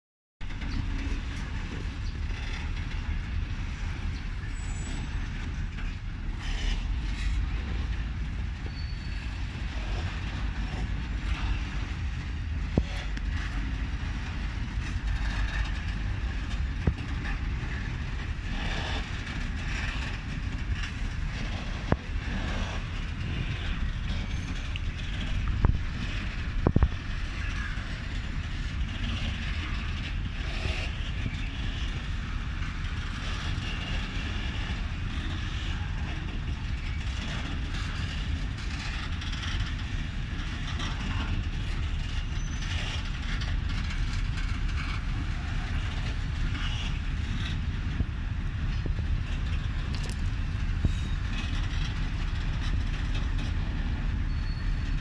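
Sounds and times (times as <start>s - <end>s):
diesel locomotive engine running: 0.4s - 55.0s.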